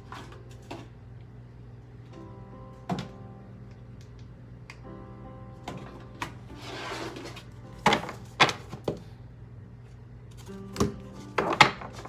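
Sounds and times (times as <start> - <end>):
soft background music: 0.0 - 9.0, 10.2 - 12.0.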